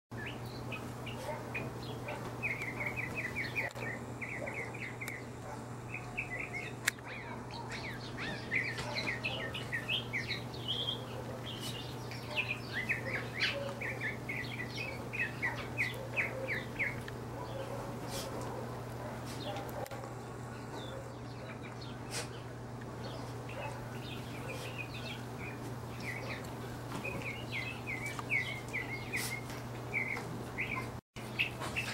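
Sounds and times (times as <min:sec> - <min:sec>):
small birds chirping: 0:00.2 - 0:31.9
steady low hum: 0:00.2 - 0:31.9.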